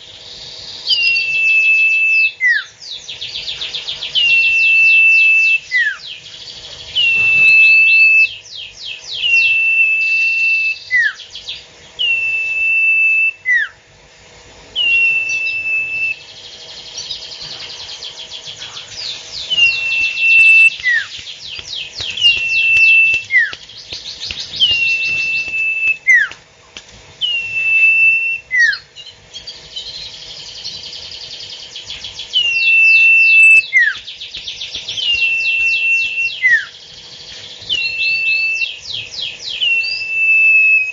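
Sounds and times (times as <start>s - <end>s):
bird call with trill and whistle: 0.0s - 13.8s, 14.8s - 26.4s, 27.2s - 40.9s.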